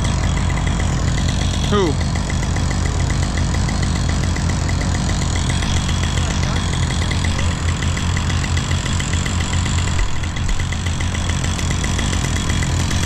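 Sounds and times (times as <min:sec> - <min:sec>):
engine idling with fast ticking: 0:00.0 - 0:13.0.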